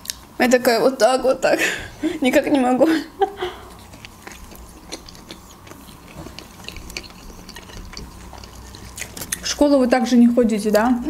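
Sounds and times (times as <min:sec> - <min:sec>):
people chewing food: 0:00.0 - 0:01.0, 0:01.6 - 0:11.0.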